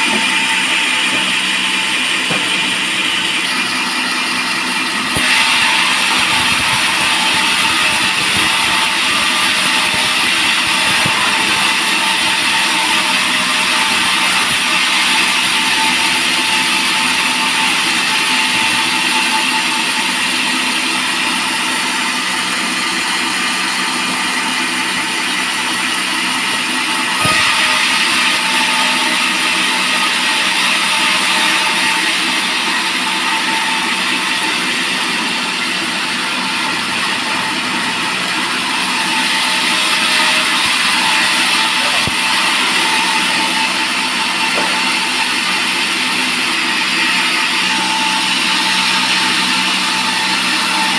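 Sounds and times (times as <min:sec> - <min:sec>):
band saw cutting log: 0:00.0 - 0:50.9.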